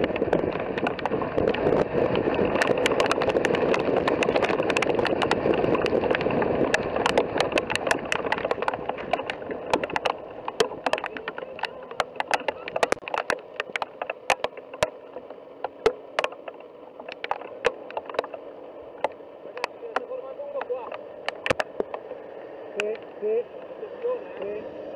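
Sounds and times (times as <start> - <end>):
sharp ticks: 0.0 - 18.4, 19.0 - 22.2, 22.8 - 23.1.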